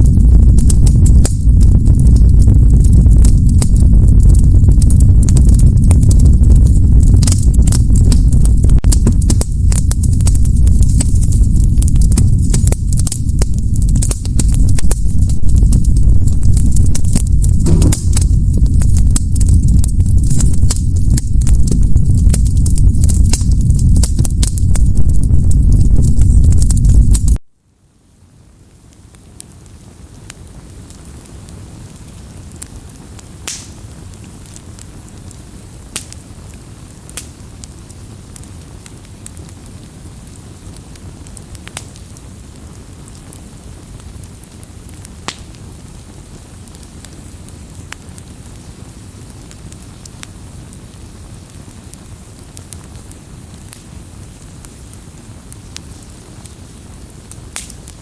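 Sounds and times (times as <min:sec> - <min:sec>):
fire crackling and popping: 0:00.0 - 0:58.0
fire rumbling and hissing: 0:00.0 - 0:58.0.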